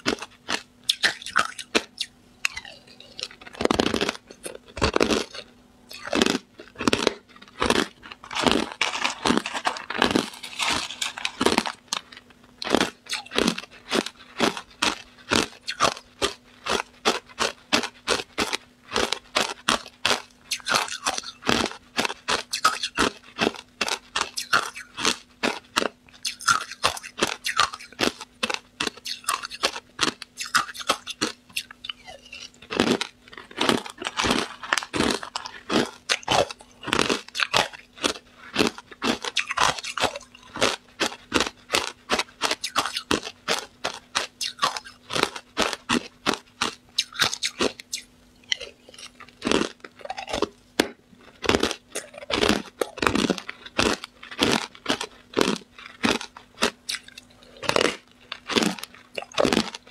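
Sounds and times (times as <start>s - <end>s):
ice being crunched and chewed: 0.0s - 59.9s.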